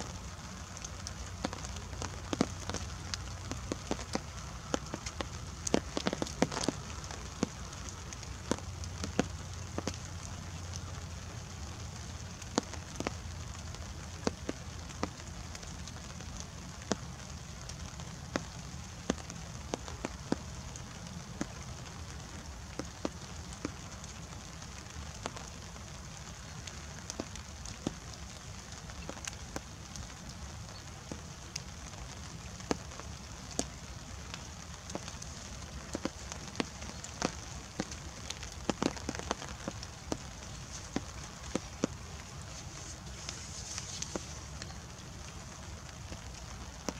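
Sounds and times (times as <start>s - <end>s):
light rain hissing: 0.0s - 46.9s
raindrops ticking: 0.0s - 46.9s.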